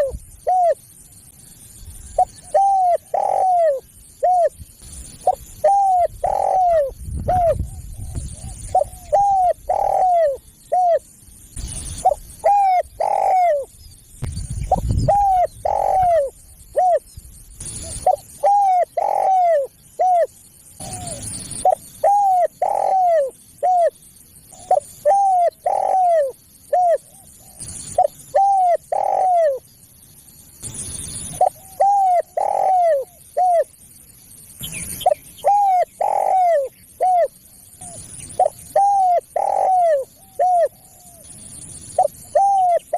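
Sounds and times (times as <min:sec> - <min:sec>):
dove cooing: 0:00.0 - 0:00.9, 0:02.1 - 0:13.7, 0:14.7 - 0:29.6, 0:31.3 - 0:33.8, 0:35.0 - 0:42.9.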